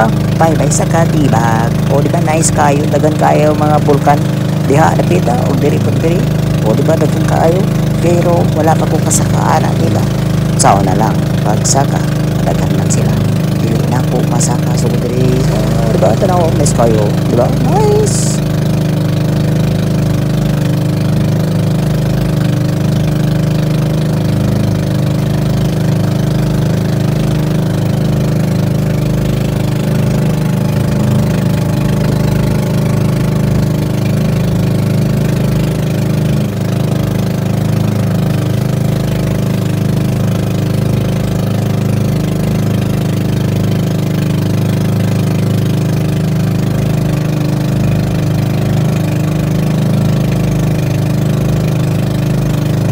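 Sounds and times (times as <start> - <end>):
motor boat engine running: 0.0 - 52.9.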